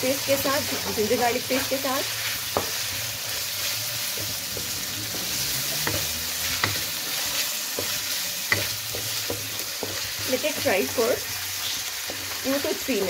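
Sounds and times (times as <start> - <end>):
chicken sizzling in oil: 0.0 - 13.0
spatula tapping and scraping pan: 0.7 - 12.8.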